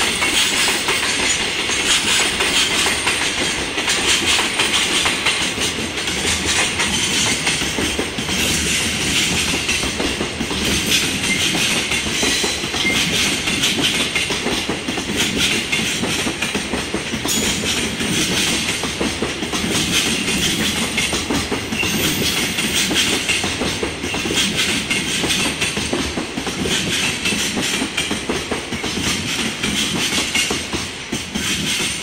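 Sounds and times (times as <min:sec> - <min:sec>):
freight train rumbling: 0:00.0 - 0:32.0
wheels clattering on rails: 0:00.0 - 0:32.0.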